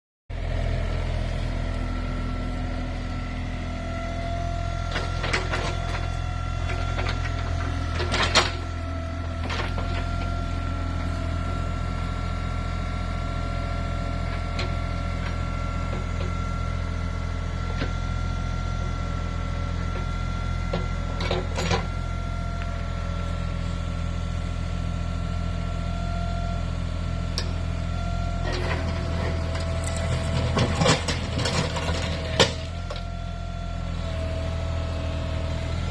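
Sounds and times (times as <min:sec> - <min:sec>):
excavator engine running: 0:00.3 - 0:35.9.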